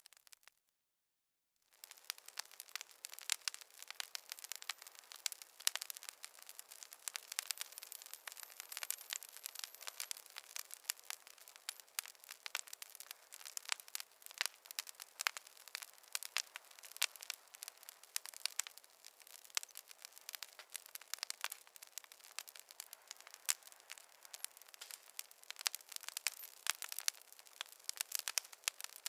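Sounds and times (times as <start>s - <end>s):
wood fire crackling: 0.0s - 0.5s, 1.7s - 29.0s.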